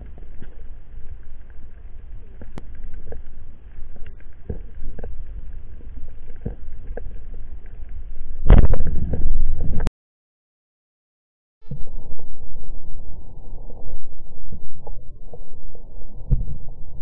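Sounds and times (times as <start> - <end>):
low underwater rumble: 0.0 - 9.9, 11.6 - 17.0.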